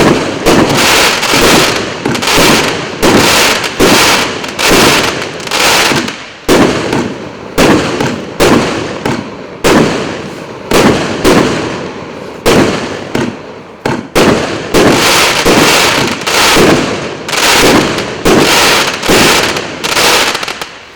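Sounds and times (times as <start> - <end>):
firework cake bangs: 0.0 - 11.8, 12.5 - 20.7.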